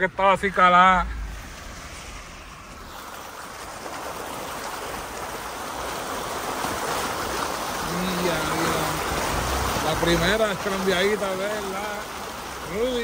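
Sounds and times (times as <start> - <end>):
water splashing around tyres: 0.0 - 13.0.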